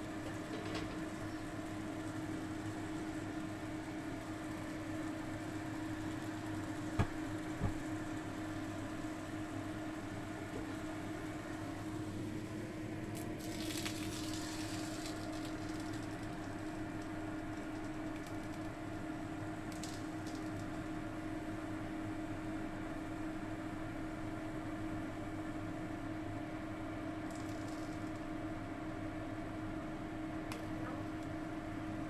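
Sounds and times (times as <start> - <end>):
food simmering in a pan: 0.0 - 29.4.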